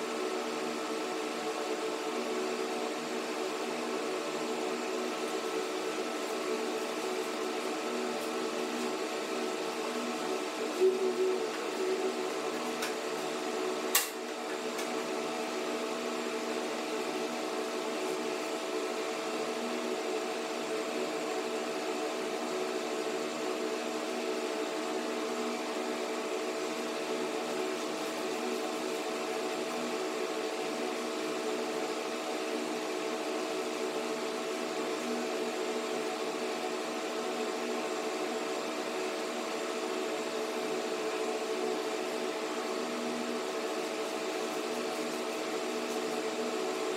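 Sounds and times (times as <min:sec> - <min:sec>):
mechanical hum: 0:00.0 - 0:46.9.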